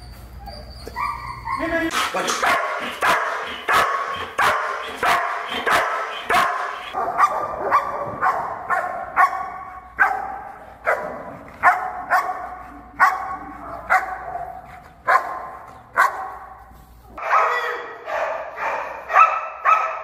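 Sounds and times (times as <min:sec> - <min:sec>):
dog barking: 0:02.4 - 0:16.6, 0:17.2 - 0:20.0.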